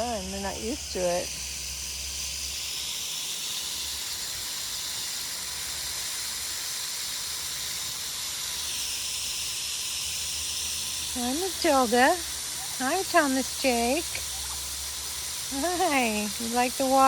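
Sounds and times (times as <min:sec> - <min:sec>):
water running with faint tone: 0:00.0 - 0:17.0.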